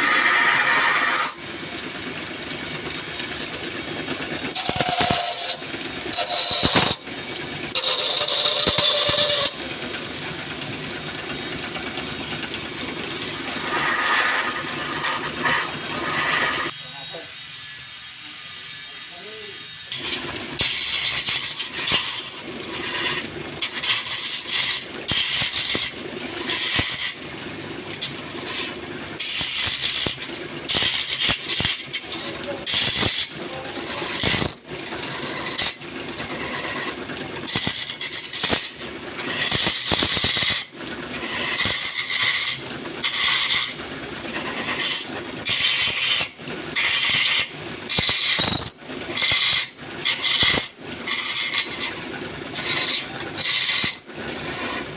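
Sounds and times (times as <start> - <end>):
wood lathe humming: 0.0 - 17.3, 18.6 - 54.9
turning tool scraping squeal: 0.0 - 54.9.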